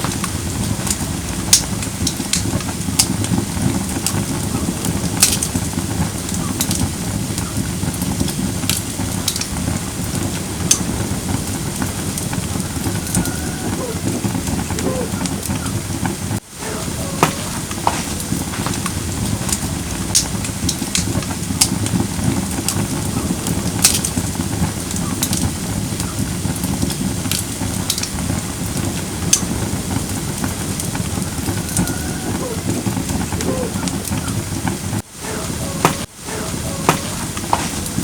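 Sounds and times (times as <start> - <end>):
fire crackles and pops: 0.0 - 38.0
flames rustling: 0.0 - 38.0.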